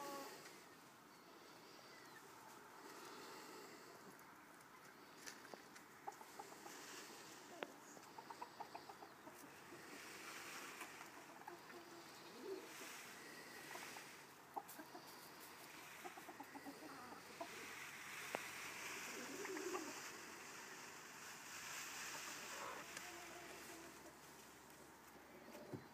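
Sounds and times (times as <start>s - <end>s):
chickens clucking: 1.9s - 25.9s.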